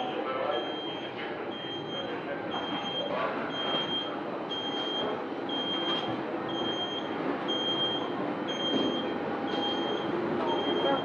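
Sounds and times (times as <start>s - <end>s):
high electronic warning beep: 0.6s - 11.0s.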